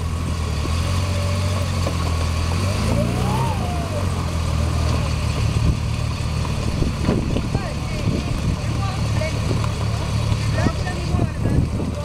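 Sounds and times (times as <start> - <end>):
buggy engine at low revs: 0.0 - 12.0.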